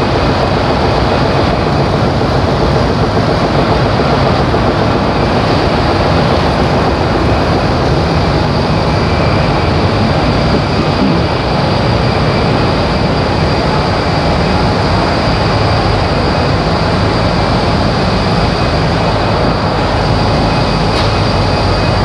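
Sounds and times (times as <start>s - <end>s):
high whine: 0.0s - 22.0s
machinery drone: 0.0s - 22.0s.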